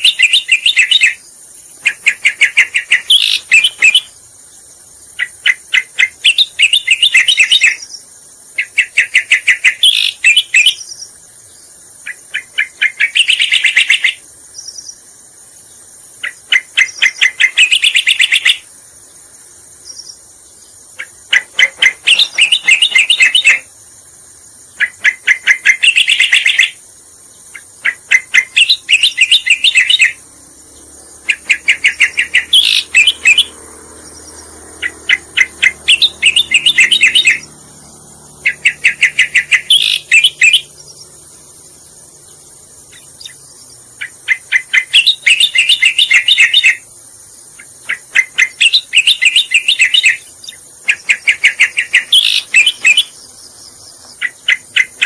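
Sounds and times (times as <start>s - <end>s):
bird chirping song: 0.0s - 55.0s
steady high hiss: 0.0s - 55.0s.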